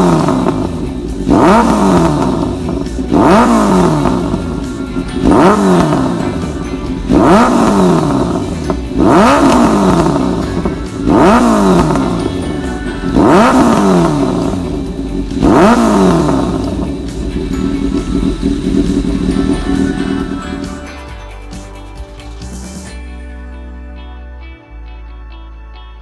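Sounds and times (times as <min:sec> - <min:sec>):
motorcycle engine revving: 0:00.0 - 0:23.2.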